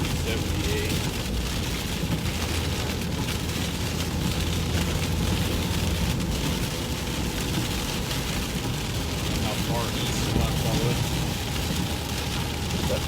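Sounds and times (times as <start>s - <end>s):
rain and spray hiss: 0.0s - 13.0s
tyre hum on wet road: 0.0s - 13.0s
tyres and engine rumble: 0.0s - 13.0s.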